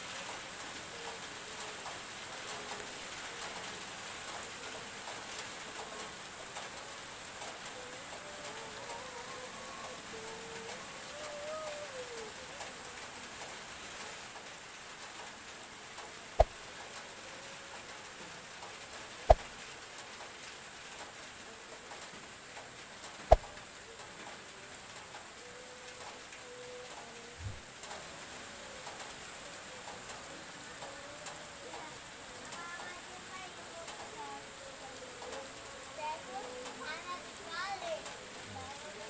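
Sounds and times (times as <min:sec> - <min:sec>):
light rain hissing: 0:00.0 - 0:39.0.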